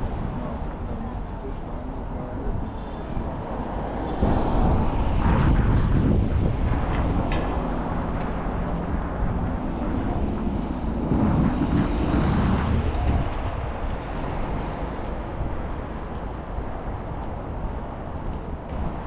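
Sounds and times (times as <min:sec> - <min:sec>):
road noise from passing cars: 0:00.0 - 0:19.0.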